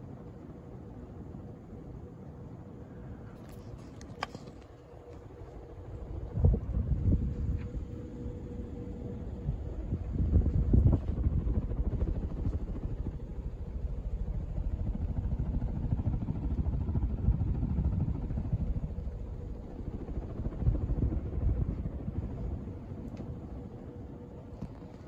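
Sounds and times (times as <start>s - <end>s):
fan blades rushing air: 0.0s - 25.0s
fan motor hum: 3.1s - 25.0s.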